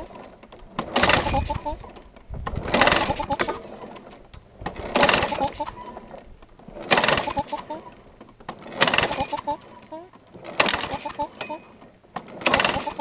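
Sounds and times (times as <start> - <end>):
mower recoil starter pulls: 0.0 - 13.0.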